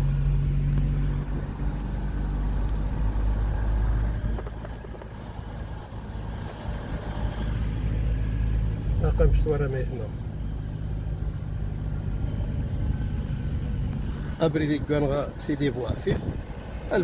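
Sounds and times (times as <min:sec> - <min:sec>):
car engine hum: 0:00.0 - 0:17.0
road noise rumble: 0:00.0 - 0:17.0.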